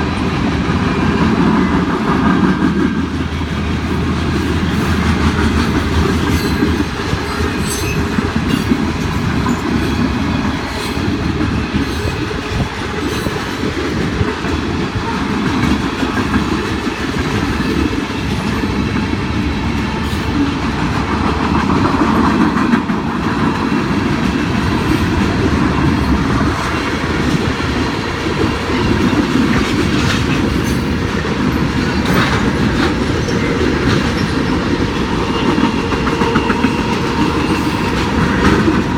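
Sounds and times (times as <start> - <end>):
freight train rolling past: 0.0 - 38.9
wheels clacking over rail joints: 0.2 - 38.9.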